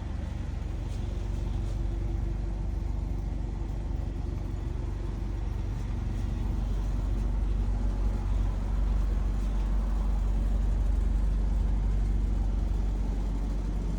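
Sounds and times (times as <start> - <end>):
van engine idling: 0.0 - 13.9.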